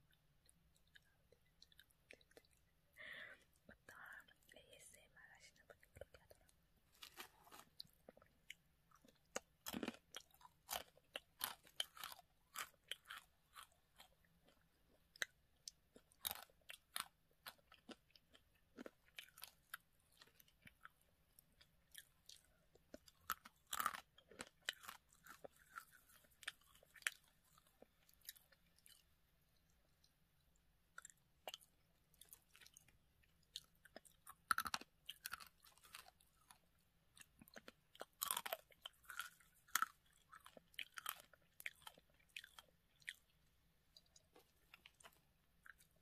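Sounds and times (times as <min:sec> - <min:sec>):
person crunching dry noodles: 0:06.3 - 0:29.1, 0:30.9 - 0:46.0.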